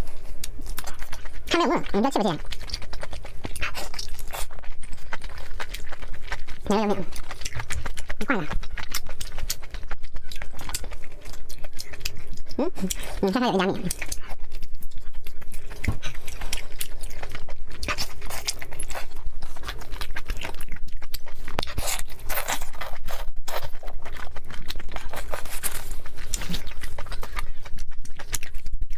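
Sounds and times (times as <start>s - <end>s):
moist chewing clicks and smacks: 0.0s - 28.9s.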